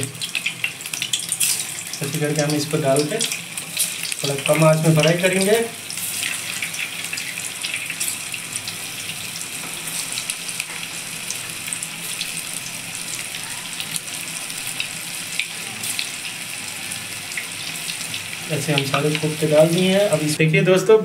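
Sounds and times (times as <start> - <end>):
food deep-frying in oil: 0.0 - 20.8.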